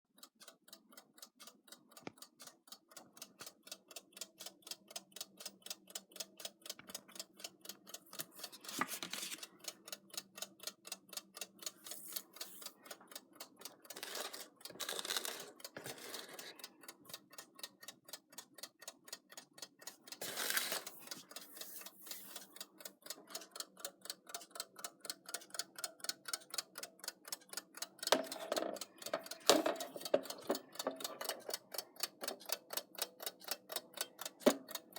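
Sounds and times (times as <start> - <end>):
alarm clock ticking: 0.2 - 34.9.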